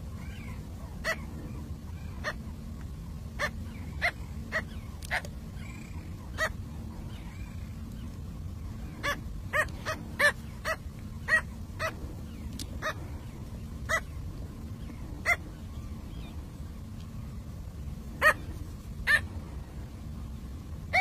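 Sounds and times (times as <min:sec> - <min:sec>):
steady low hum: 0:00.0 - 0:21.0
bird harsh yapping calls: 0:00.1 - 0:02.6, 0:03.3 - 0:16.4, 0:18.1 - 0:19.4.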